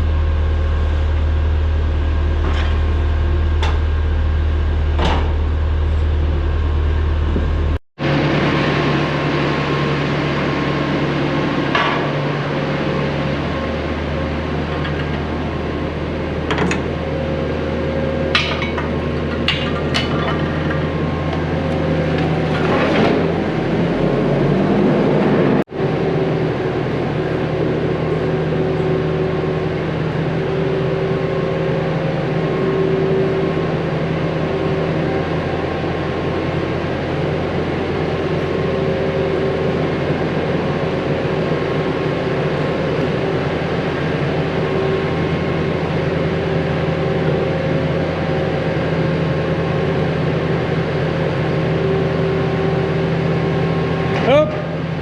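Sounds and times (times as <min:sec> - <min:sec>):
loader diesel engine running: 0:00.0 - 0:55.0.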